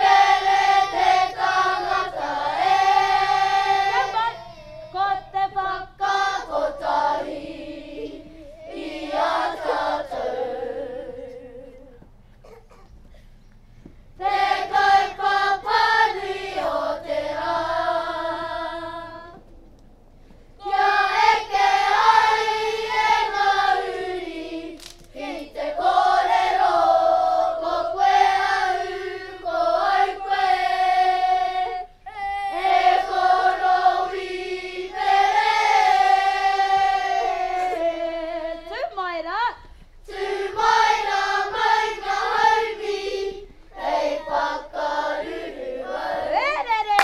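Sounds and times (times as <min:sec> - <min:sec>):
children singing together: 0:00.0 - 0:12.8, 0:14.2 - 0:19.4, 0:20.6 - 0:38.8, 0:40.0 - 0:46.4.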